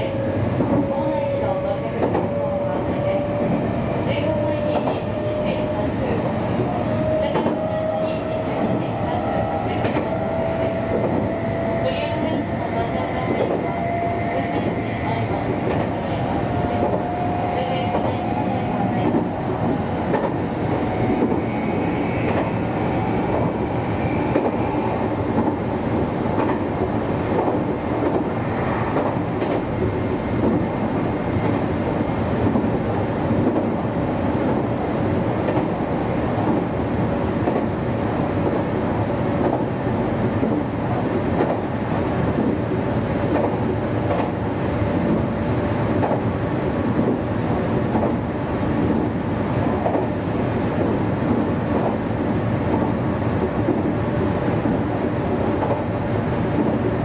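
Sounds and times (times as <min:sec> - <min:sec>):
electric train rumbling: 0:00.0 - 0:57.0
clickety-clack of rail joints: 0:00.2 - 0:21.5, 0:22.2 - 0:23.5, 0:24.3 - 0:24.7, 0:25.3 - 0:31.7, 0:32.3 - 0:33.8, 0:34.4 - 0:34.8, 0:35.4 - 0:38.7, 0:39.3 - 0:45.3, 0:45.9 - 0:57.0.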